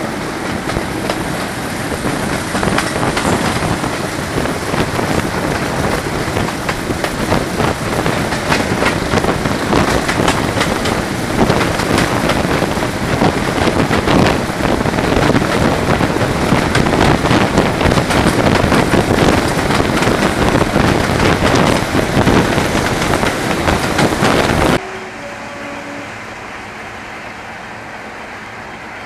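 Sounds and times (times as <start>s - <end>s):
wind buffeting microphone: 0.0s - 24.8s
train running noise: 0.0s - 29.0s.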